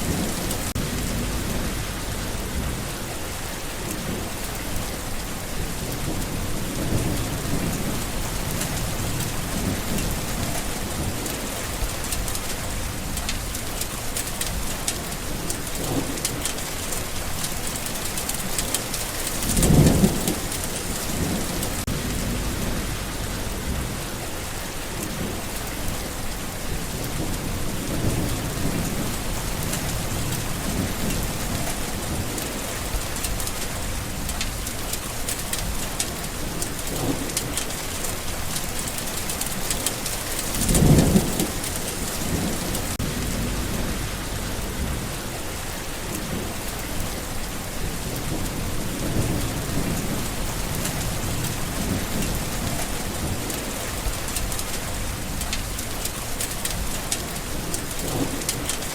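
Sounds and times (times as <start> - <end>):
heavy rain pattering: 0.0 - 58.9
thunder rumbling: 0.0 - 58.9.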